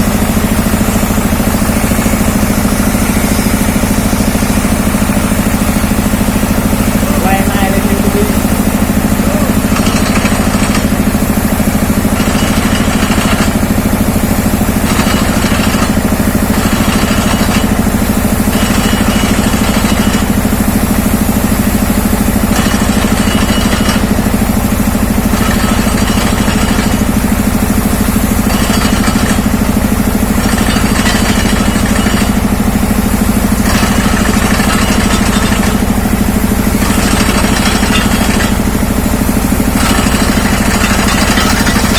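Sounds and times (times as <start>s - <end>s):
drilling rig engine running: 0.0s - 41.9s.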